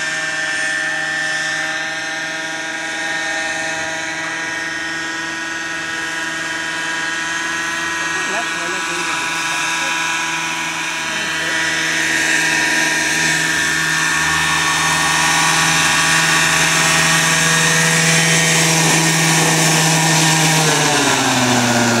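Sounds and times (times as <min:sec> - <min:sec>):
model helicopter engine and rotor: 0:00.0 - 0:22.0.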